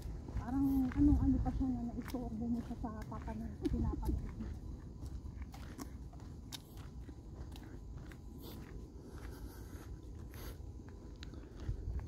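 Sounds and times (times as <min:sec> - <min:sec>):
footsteps crunching on dirt: 0:00.0 - 0:12.0
low steady rumble: 0:00.0 - 0:12.0.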